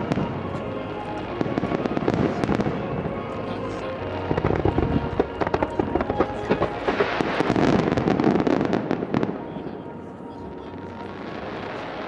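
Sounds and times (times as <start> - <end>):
fireworks bursts and crackling: 0.0 - 12.0.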